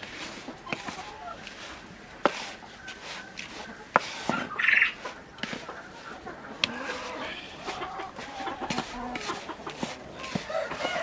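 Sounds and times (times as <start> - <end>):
chickens clucking: 0.0 - 11.0
chicken squawk: 0.5 - 1.5, 2.4 - 11.0.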